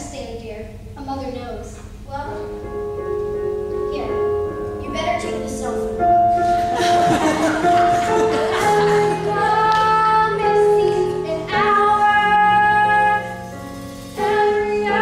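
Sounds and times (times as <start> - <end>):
show tune with held sung notes: 2.5 - 15.0.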